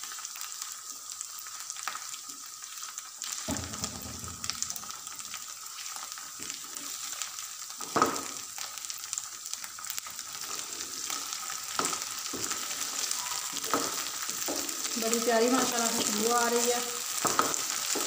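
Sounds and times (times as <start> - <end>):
greens sizzling in a pan: 0.0 - 18.0.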